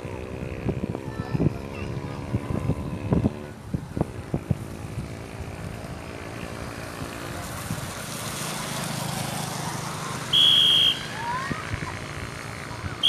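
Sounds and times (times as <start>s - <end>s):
motorcycle engine on wet road: 0.0s - 13.0s.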